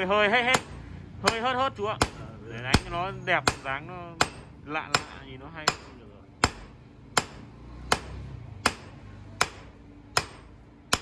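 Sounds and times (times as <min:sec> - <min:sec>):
hammer striking steel on anvil: 0:00.5 - 0:11.0.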